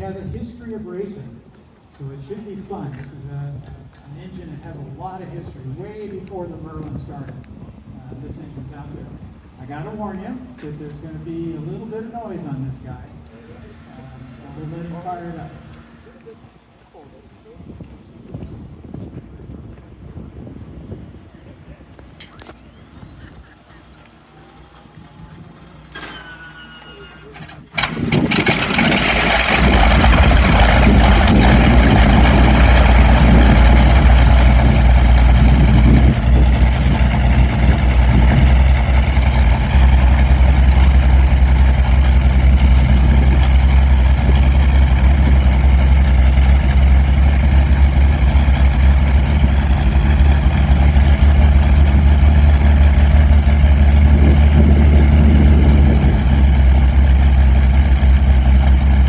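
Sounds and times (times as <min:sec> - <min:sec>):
aircraft engine rumbling: 0:03.8 - 0:59.0.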